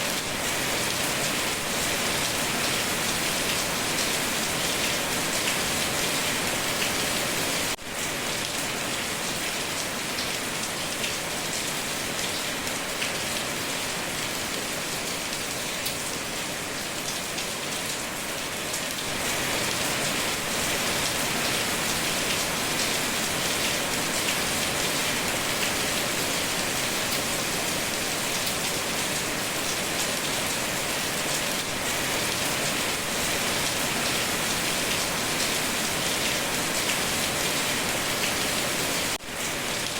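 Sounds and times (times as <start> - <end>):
rain hissing on a surface: 0.0 - 39.9.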